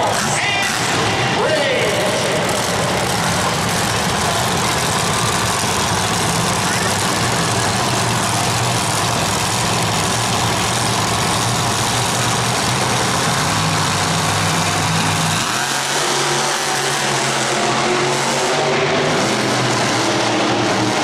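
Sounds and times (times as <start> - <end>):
arena crowd noise: 0.0 - 21.0
monster truck engines running loudly: 0.0 - 21.0.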